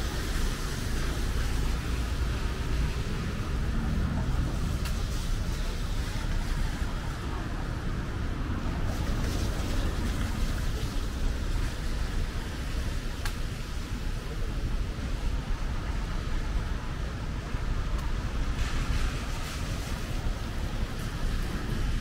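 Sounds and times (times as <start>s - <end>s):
low rumble of traffic: 0.0s - 22.0s
rain hiss: 0.0s - 22.0s.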